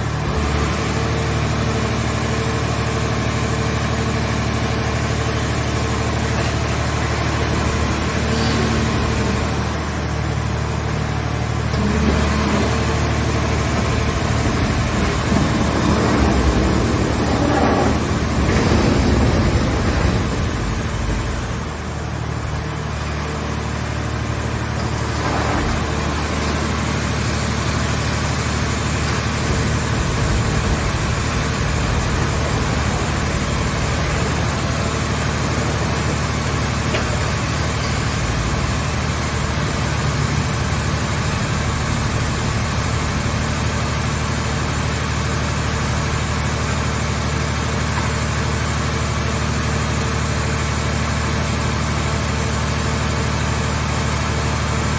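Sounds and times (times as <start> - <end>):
engine hum: 0.0 - 44.2
broad machine noise: 0.0 - 54.9.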